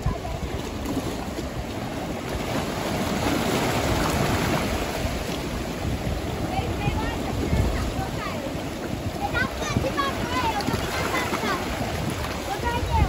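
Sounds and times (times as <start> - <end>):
sea waves washing over rocks: 0.0 - 13.0.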